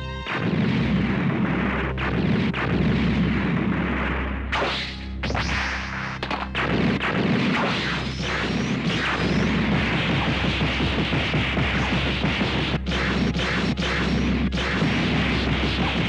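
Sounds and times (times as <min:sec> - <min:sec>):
punch and blast impacts: 0:00.3 - 0:16.0.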